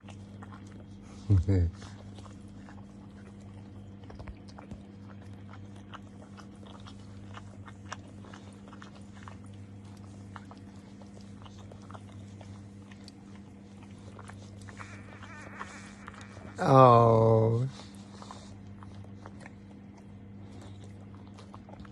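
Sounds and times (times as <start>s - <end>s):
steady low hum: 0.0s - 21.9s
dog mouth clicks and smacks: 2.0s - 16.2s, 18.5s - 21.9s.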